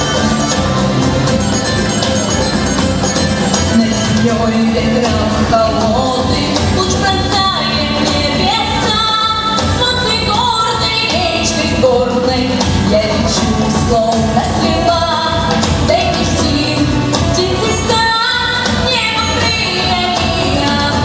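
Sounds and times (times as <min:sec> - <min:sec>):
instrumental accompaniment: 0:00.0 - 0:21.0
girl singing pop song: 0:03.7 - 0:21.0.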